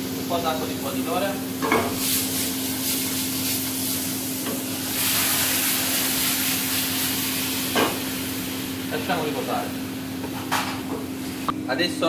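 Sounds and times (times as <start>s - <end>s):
greens sizzling in pan: 0.2s - 11.5s.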